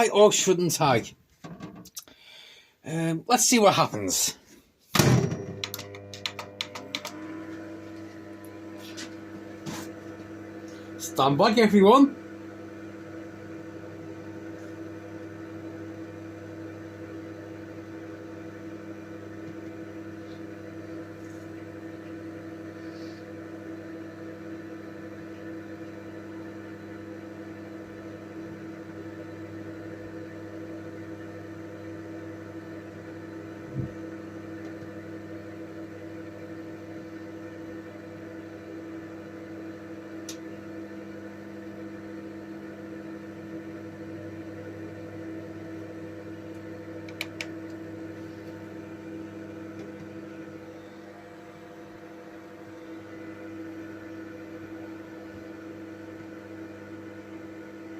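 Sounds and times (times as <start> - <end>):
microwave oven humming: 5.0 - 57.9.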